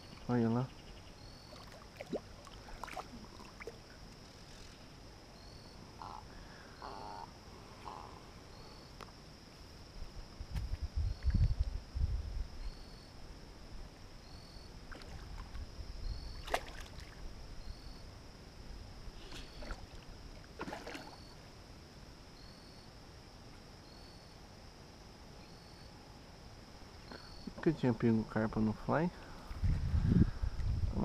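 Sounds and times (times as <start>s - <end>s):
high insect drone: 0.0s - 31.0s
insect chirp: 0.0s - 31.0s.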